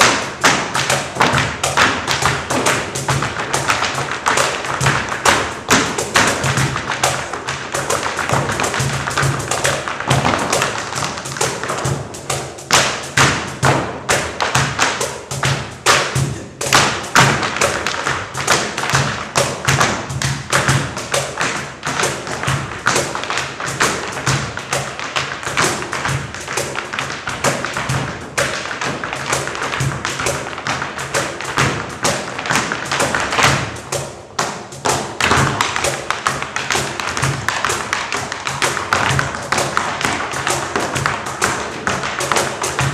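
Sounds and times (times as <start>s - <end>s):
music: 0.0s - 42.9s
shoes tapping on stage floor: 0.0s - 42.9s.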